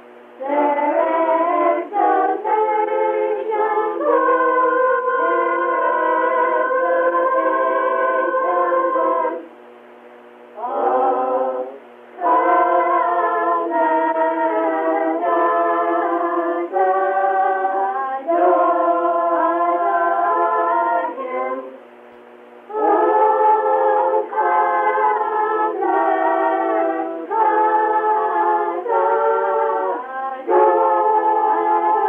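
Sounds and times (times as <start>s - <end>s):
children singing: 0.4s - 9.4s, 10.6s - 21.8s, 22.7s - 32.0s.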